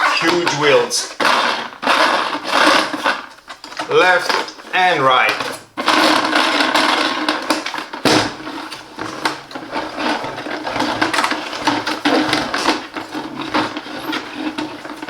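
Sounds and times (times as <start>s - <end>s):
plastic knocks clicks and rattles: 0.2s - 4.7s, 5.3s - 15.0s.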